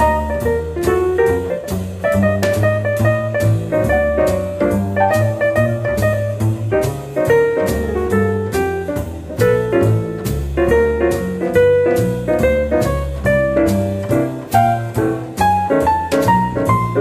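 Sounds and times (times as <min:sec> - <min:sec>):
double bass: 0:00.0 - 0:17.0
drums: 0:00.0 - 0:17.0
piano: 0:00.0 - 0:17.0.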